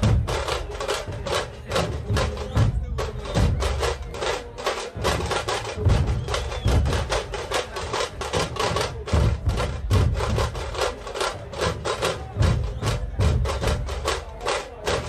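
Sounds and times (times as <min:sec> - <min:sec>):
deep drum thumps: 0:00.0 - 0:15.0.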